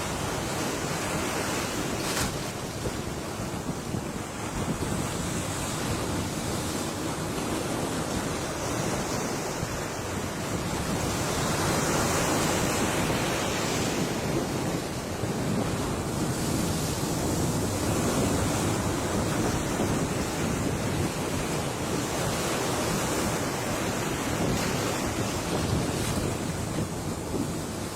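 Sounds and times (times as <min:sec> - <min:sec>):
ocean surf washing on shore: 0:00.0 - 0:27.9.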